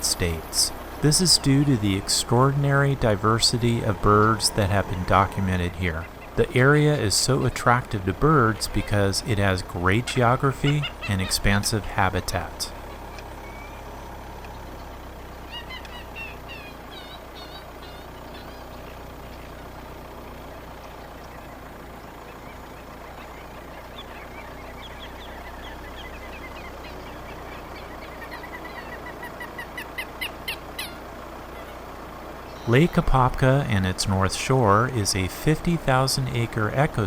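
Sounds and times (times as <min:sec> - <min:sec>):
birds chirping: 0:00.0 - 0:37.0
slow vehicle humming: 0:00.0 - 0:37.0.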